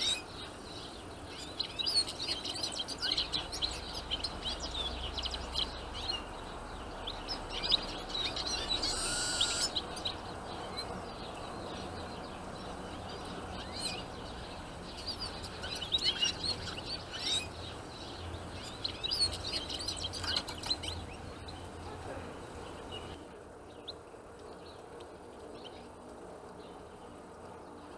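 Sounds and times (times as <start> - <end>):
songbirds chirping and twittering: 0.0 - 27.9.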